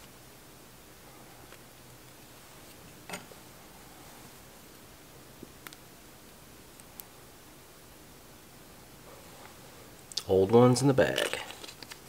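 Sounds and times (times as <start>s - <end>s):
faint room tone hiss: 0.0s - 12.0s.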